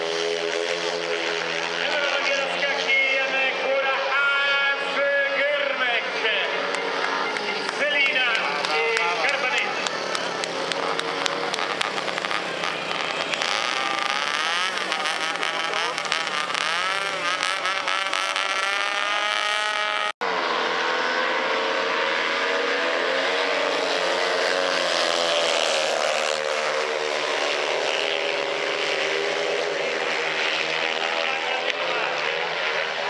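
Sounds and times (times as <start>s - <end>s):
motorcycles racing: 0.0s - 33.0s
motorcycles revving: 0.0s - 33.0s.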